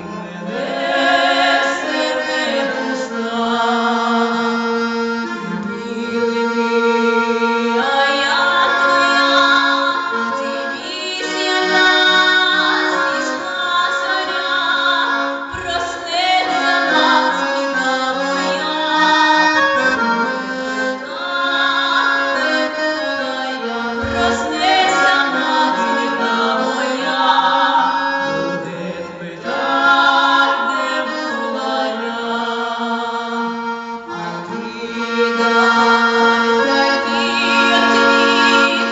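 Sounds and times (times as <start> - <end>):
accordion playing: 0.0 - 38.9.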